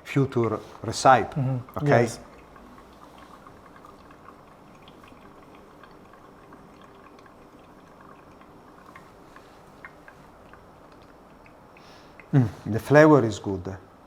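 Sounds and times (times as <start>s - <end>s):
coffee trickling and dripping: 0.0s - 14.0s.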